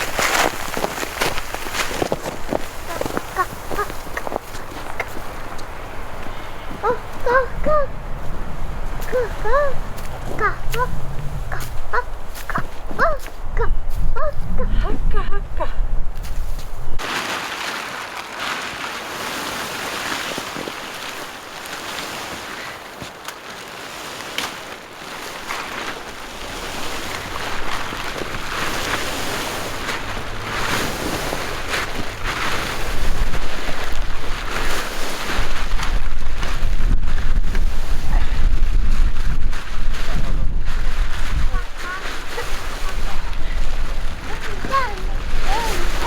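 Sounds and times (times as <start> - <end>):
wind buffeting microphone: 0.0 - 17.0, 25.2 - 46.0.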